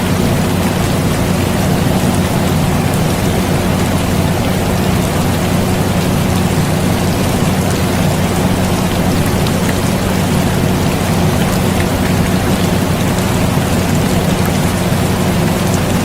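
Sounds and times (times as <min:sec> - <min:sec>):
air conditioner humming: 0:00.0 - 0:16.0
steady rain falling: 0:00.0 - 0:16.0.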